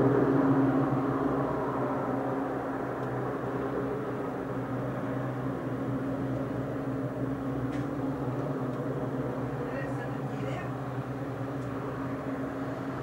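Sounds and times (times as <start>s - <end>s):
helicopter hovering: 0.0s - 13.0s.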